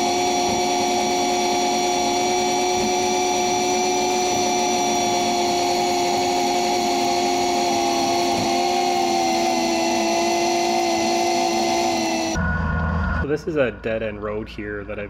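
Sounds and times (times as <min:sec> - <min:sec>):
vehicle engine whine: 0:00.0 - 0:15.0.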